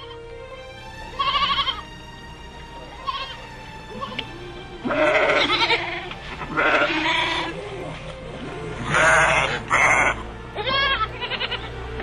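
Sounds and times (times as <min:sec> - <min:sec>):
quavering bleating: 0:00.0 - 0:00.3, 0:01.1 - 0:01.9, 0:02.9 - 0:11.8
background music: 0:00.0 - 0:12.0.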